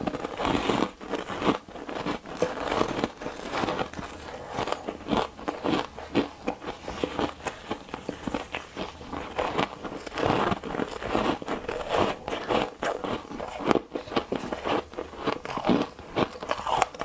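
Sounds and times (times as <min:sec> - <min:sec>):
chewing crunchy ice: 0:00.0 - 0:17.0.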